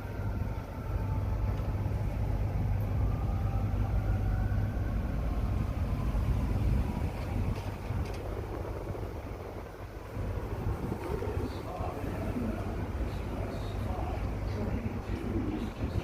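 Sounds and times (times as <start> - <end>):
wheels rumbling on rail: 0.0 - 16.0.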